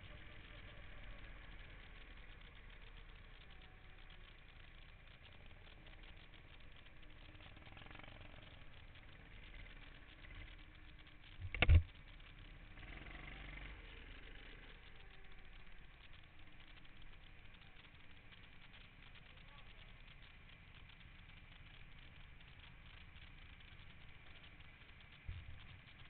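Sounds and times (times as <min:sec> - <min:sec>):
go-kart engines running: 0:00.0 - 0:26.0.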